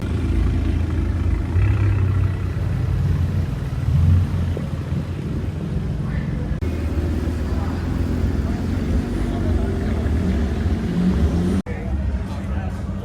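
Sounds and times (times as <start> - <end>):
car engine rumbling: 0.0 - 11.7.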